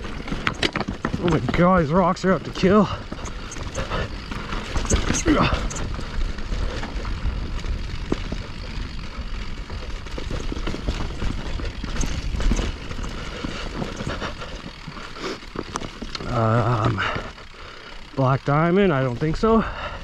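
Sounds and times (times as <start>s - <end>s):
bike clattering over rocks: 0.0s - 19.9s.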